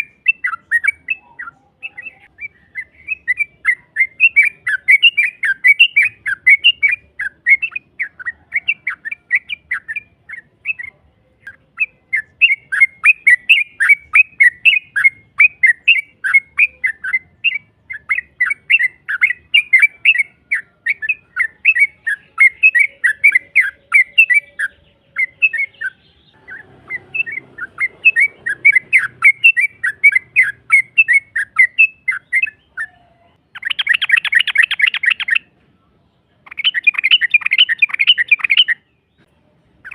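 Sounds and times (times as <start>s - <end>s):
bulbul chattering song: 0.0s - 35.6s, 36.3s - 39.9s.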